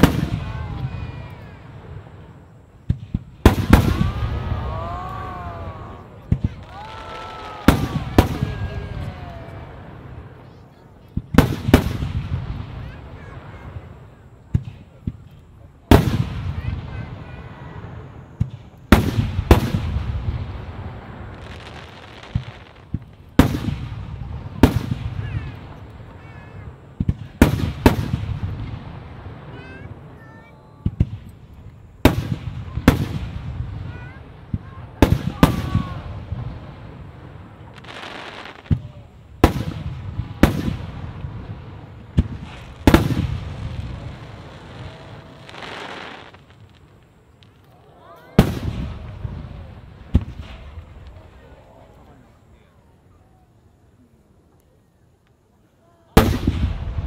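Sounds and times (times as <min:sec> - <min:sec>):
faint fireworks thuds: 0:00.0 - 0:52.7, 0:54.5 - 0:57.0
fireworks booming: 0:00.0 - 0:52.7, 0:56.1 - 0:57.0
fireworks crackle: 0:00.0 - 0:57.0.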